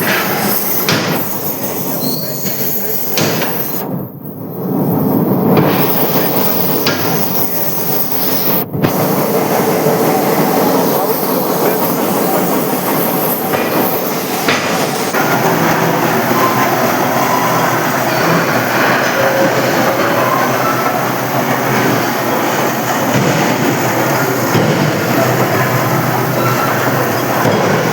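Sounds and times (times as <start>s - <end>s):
industrial machinery clatter: 0.0s - 27.9s.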